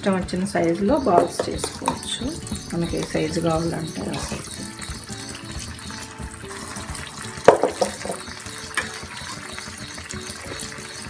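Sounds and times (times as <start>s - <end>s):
hot oil sizzling: 0.0s - 11.0s
steel ladle knocking on pan: 0.9s - 11.0s.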